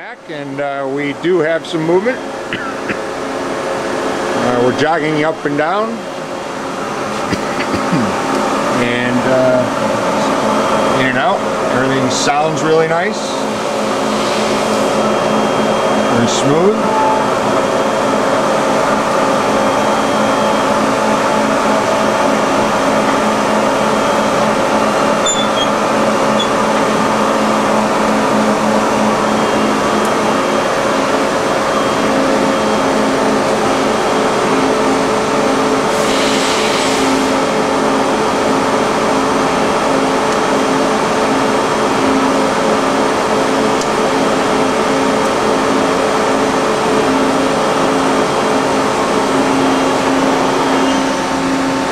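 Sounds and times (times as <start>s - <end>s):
machining center humming: 0.0s - 51.9s.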